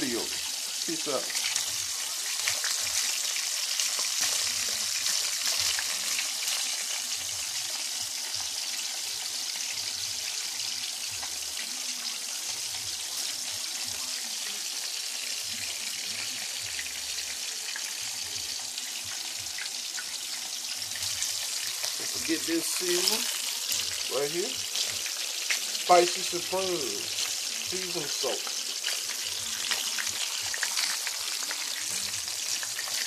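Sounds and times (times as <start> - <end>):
meat sizzling in a skillet: 0.0 - 33.0.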